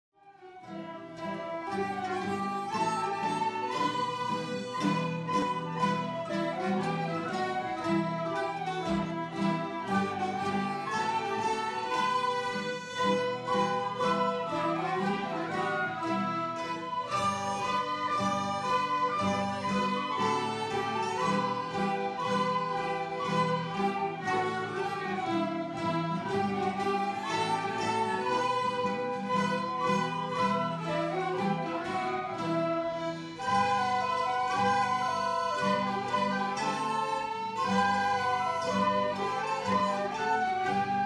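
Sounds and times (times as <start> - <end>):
folk ensemble of fiddles and accordions: 0.2 - 41.0.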